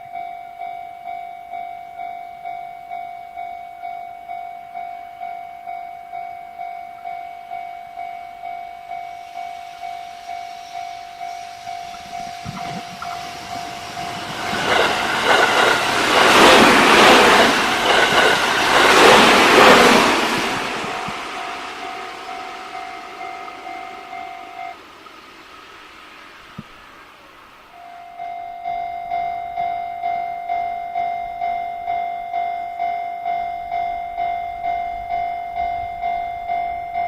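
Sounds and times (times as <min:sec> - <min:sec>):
electronic crossing bell clanging: 0:00.0 - 0:20.2, 0:21.3 - 0:24.8, 0:27.7 - 0:37.0
train wheels passing: 0:06.7 - 0:37.0.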